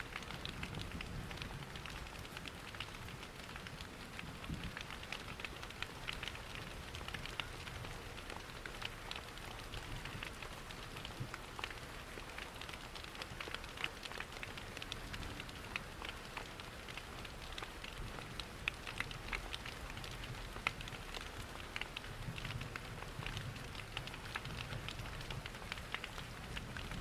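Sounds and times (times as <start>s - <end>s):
steady rain: 0.0s - 27.0s
wood fire crackling: 0.1s - 27.0s.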